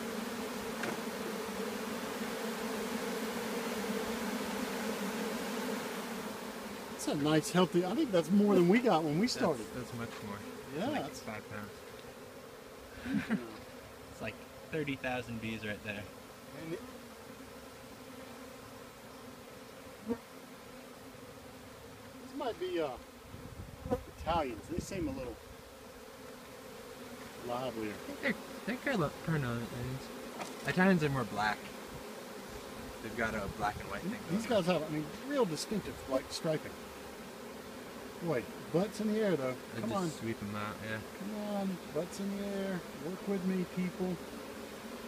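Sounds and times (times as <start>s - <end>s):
bees buzzing: 0.0s - 45.0s.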